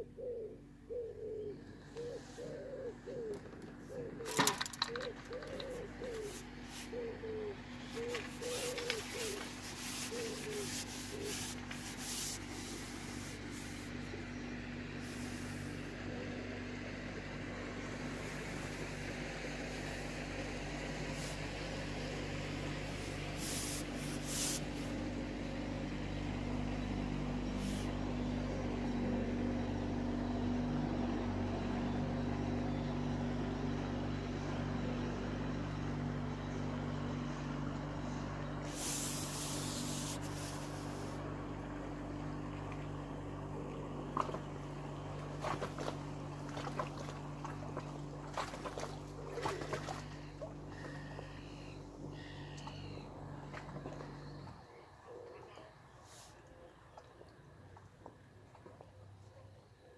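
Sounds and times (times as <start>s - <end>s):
boat engine droning: 0.0s - 59.8s.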